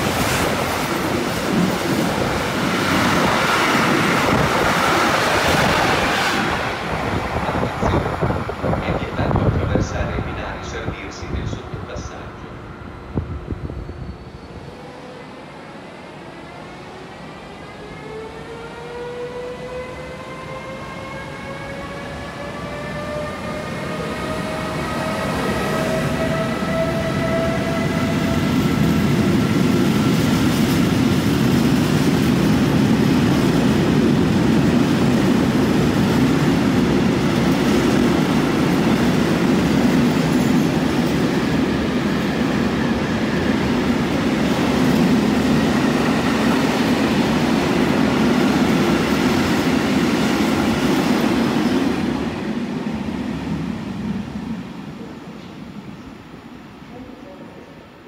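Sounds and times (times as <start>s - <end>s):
rising train whine: 0.0s - 58.0s.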